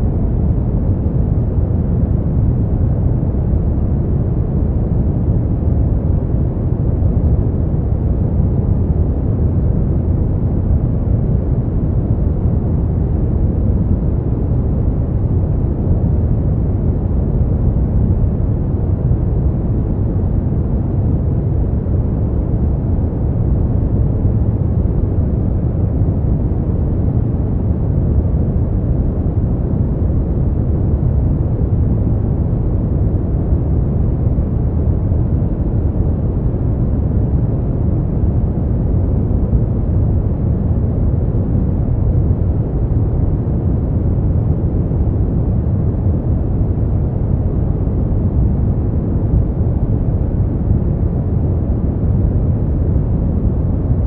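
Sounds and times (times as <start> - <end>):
deep rumbling noise: 0.0 - 54.0.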